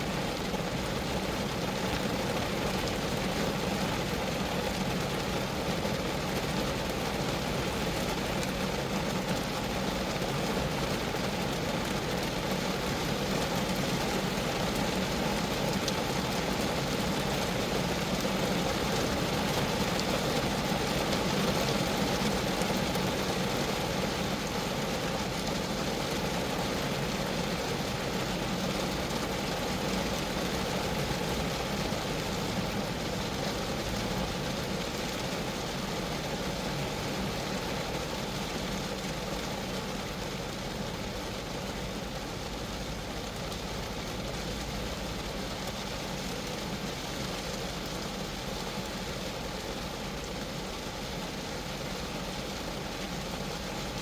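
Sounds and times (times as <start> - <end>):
rain on car metal: 0.0 - 54.0.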